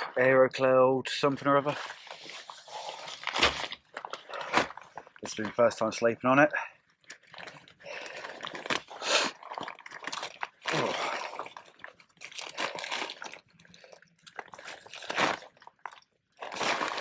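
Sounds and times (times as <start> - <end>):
crinkling plastic packaging: 0.0 - 17.0.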